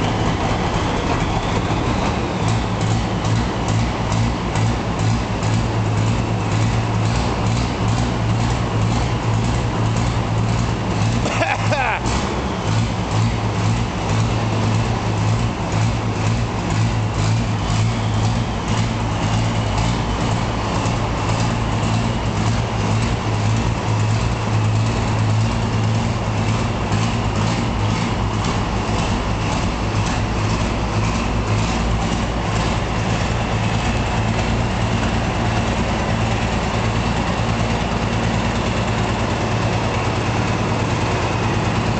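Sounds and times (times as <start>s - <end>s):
diesel tractor engine idling: 0.0s - 41.9s.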